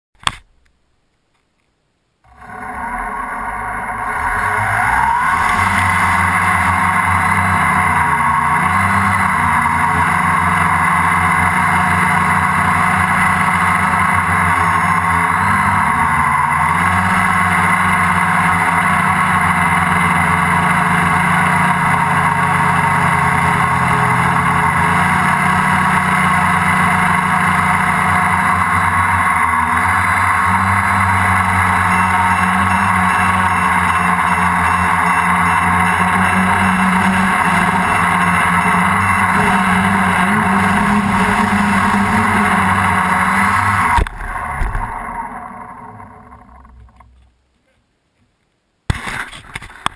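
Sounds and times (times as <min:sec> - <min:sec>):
rotor hum: 0:02.2 - 0:47.4
helicopter motor whine: 0:02.3 - 0:46.8.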